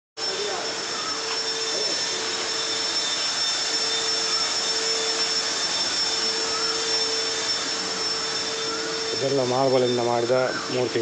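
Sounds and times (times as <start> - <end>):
small motor whirring: 0.2 - 11.0.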